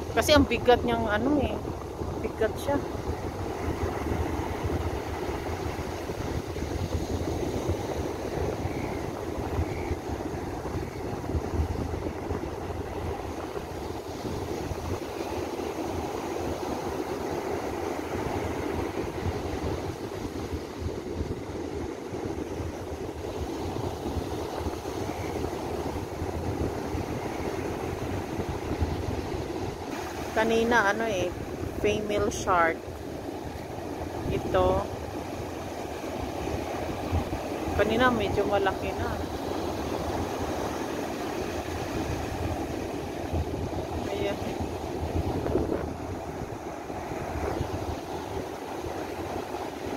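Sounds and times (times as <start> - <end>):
ocean surf breaking: 0.0 - 49.9
wind buffeting microphone: 0.0 - 49.9.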